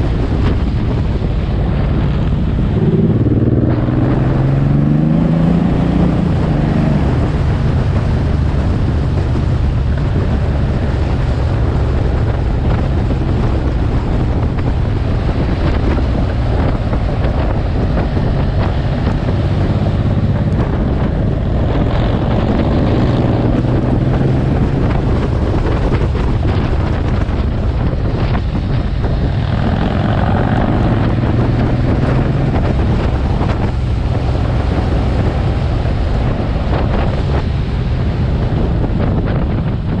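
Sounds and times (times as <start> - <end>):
motorcycle engine running: 0.0 - 40.0
wind rushing over microphone: 0.0 - 40.0.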